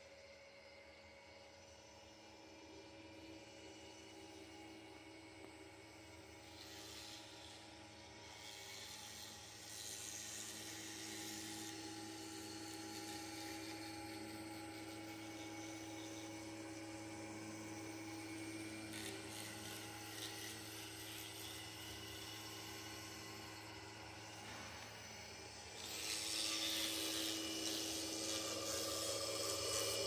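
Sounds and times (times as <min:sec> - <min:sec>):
milling spindle whine: 0:00.0 - 0:30.0
cutter hissing through foam: 0:03.2 - 0:30.0.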